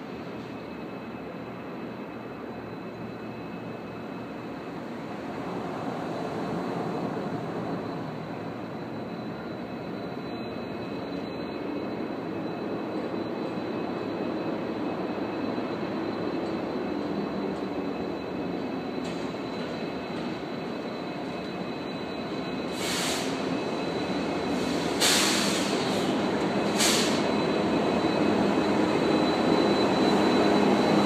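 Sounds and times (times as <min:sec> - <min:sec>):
diesel locomotive engines droning: 0:00.0 - 0:31.0.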